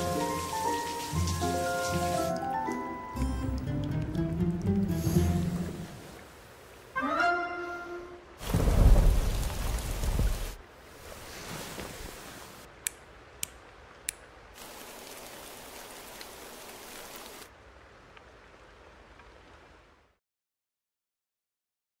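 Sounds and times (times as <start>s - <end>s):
rain hiss: 0.0s - 7.2s, 7.9s - 20.2s.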